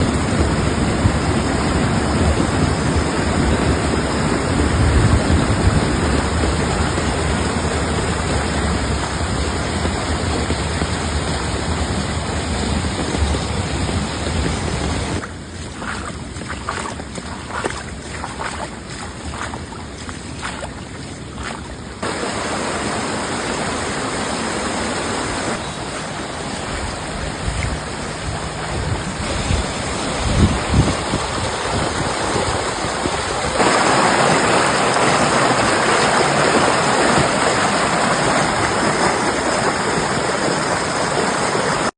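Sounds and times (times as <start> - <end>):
flooded stream rushing: 0.0 - 41.9.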